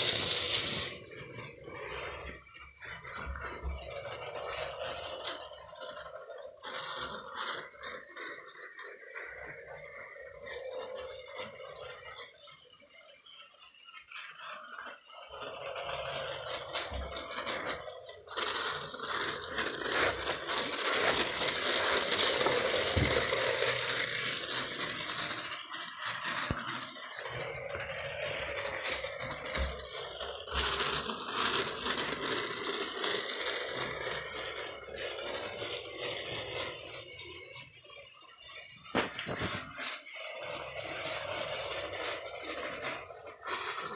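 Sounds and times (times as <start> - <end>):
toy train motor whirring: 0.0 - 43.9
wheels rattling over plastic rails: 0.0 - 43.9.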